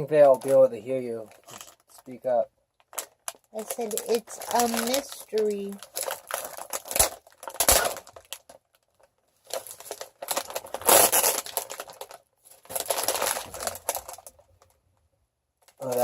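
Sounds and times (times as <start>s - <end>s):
plastic package crinkling: 1.2s - 2.1s, 2.8s - 14.8s, 15.6s - 16.0s.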